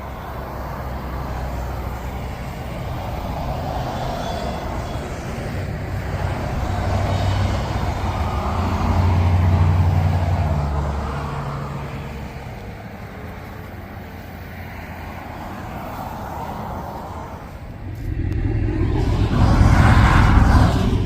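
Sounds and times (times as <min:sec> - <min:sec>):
heavy vehicle passing: 0:00.0 - 0:21.0.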